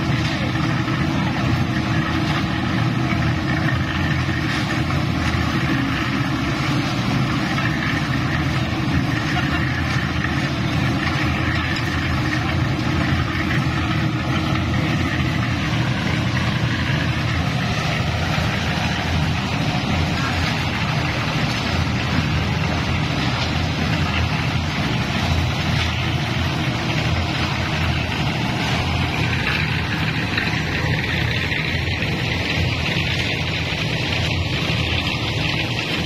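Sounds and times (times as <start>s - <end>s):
concrete mixer engine running: 0.0s - 36.0s.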